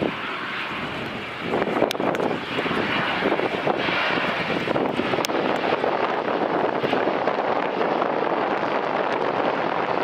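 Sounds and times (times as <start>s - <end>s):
jet engine roar: 0.0s - 10.0s.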